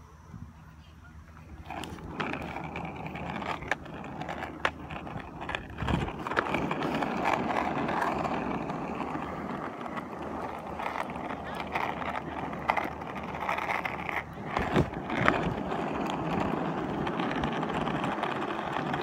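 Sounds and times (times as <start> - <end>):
skateboard wheels rolling on asphalt: 0.6 - 19.0
skateboard clacks on bumps: 1.4 - 19.0.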